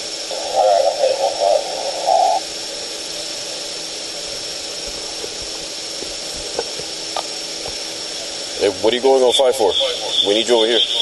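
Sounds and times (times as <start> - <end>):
faint high whine: 0.0 - 11.0
steady background hiss: 0.0 - 11.0.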